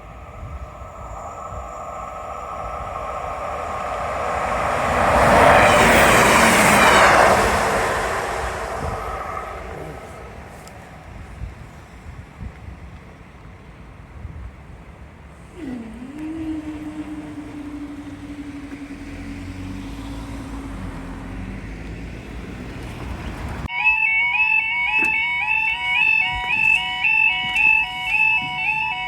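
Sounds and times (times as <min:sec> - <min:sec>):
level crossing alarm warble: 0:00.0 - 0:11.8, 0:15.4 - 0:22.4, 0:23.7 - 0:29.0
train rumbling past: 0:00.0 - 0:23.7
wind on microphone: 0:00.0 - 0:23.7.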